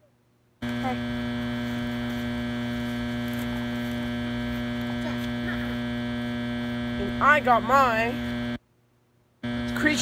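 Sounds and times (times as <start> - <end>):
loud electrical hum: 0.5 - 8.6, 9.4 - 10.0.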